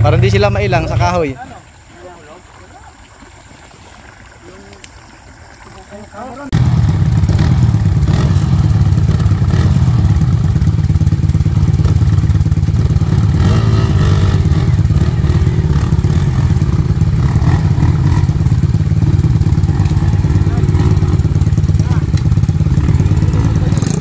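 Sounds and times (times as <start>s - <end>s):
motorcycle engine rumbling: 0.0s - 2.4s, 5.8s - 24.0s.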